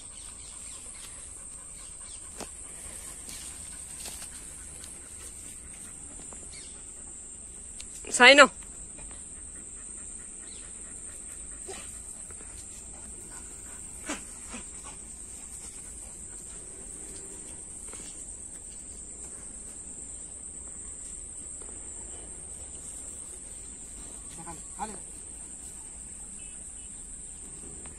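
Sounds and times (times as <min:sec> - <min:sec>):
crickets droning: 0:00.0 - 0:27.9.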